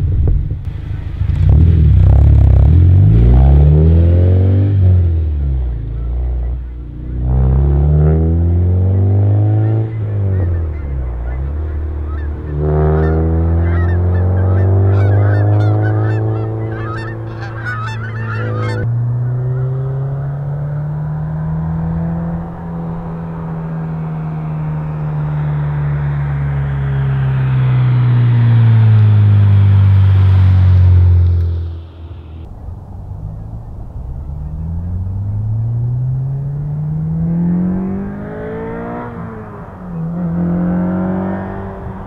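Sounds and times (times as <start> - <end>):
car engine revving: 0.6 - 42.0.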